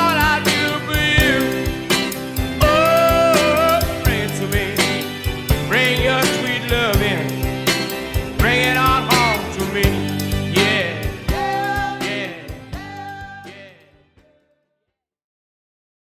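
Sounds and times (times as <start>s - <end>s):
drum hits: 0.0s - 13.4s
man singing lead vocal: 0.0s - 14.0s
soul rock song: 0.0s - 14.0s.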